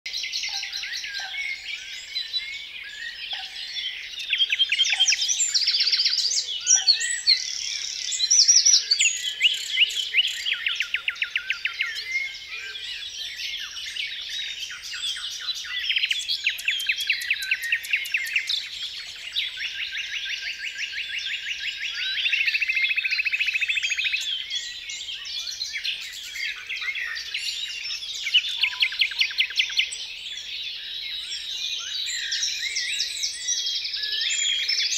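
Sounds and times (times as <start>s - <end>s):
chorus of birds singing: 0.0s - 34.9s.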